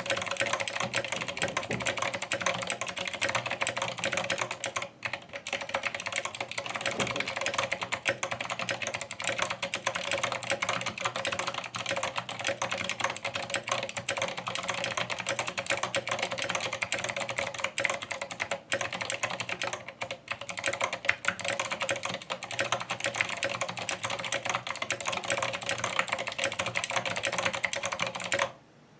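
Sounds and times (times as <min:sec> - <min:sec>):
typing on mechanical keyboard: 0:00.0 - 0:28.6.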